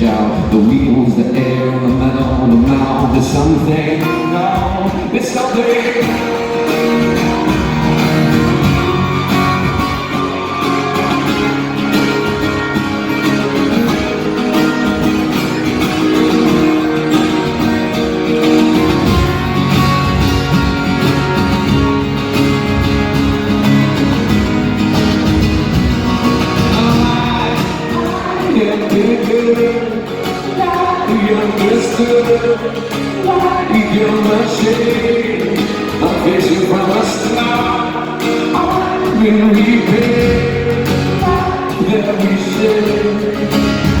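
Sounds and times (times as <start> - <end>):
acoustic rock band playing: 0.0 - 44.0.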